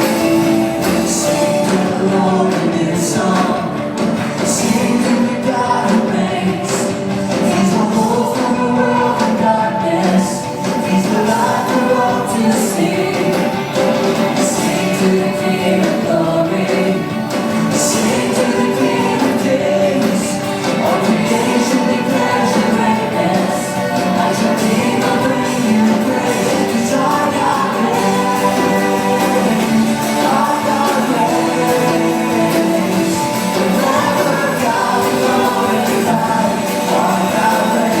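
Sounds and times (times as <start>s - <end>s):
band playing worship music: 0.0s - 38.0s
group of voices singing: 0.0s - 38.0s.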